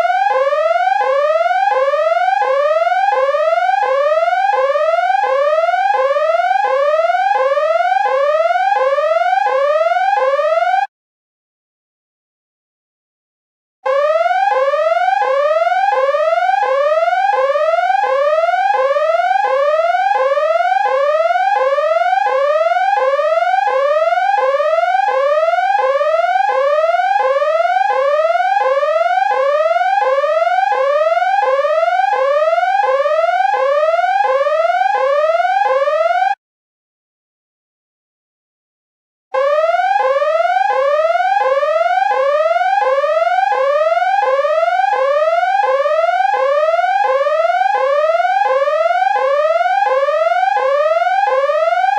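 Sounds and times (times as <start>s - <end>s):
electronic siren wailing: 0.0s - 10.9s, 13.9s - 36.4s, 39.4s - 51.9s.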